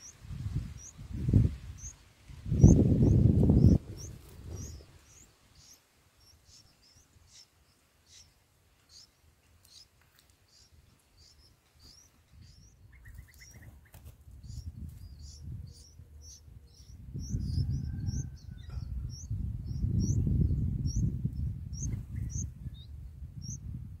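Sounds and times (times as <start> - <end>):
nestlings chirping: 0.0 - 23.6.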